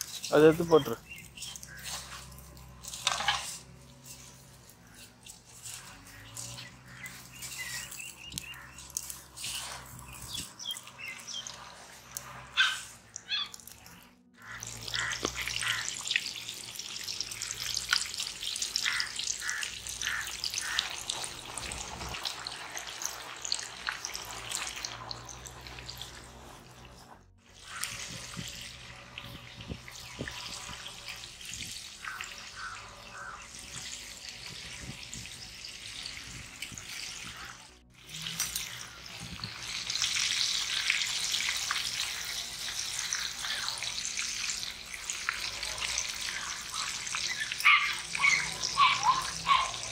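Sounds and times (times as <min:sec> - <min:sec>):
oil bubbling and sizzling: 0:00.0 - 0:49.9.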